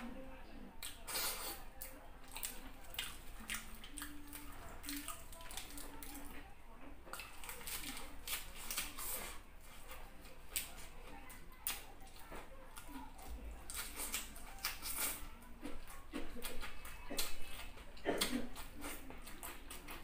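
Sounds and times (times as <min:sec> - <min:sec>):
wet chewing and lip-smacking: 0:00.8 - 0:20.0.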